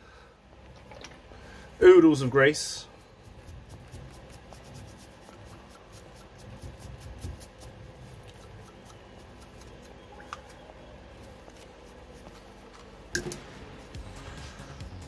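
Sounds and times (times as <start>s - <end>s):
cotton bud rubbing metal: 2.5s - 15.0s.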